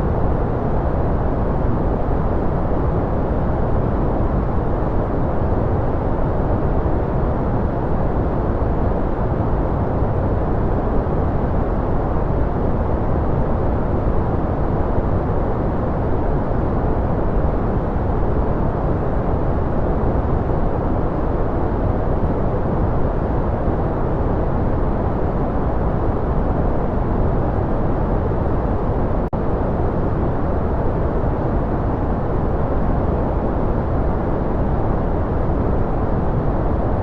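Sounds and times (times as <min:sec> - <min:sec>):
low rushing white noise: 0:00.0 - 0:37.0.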